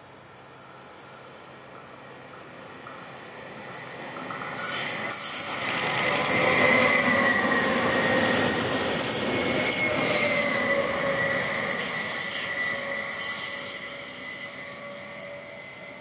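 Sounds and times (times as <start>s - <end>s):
train passing with high whine: 0.6s - 16.0s.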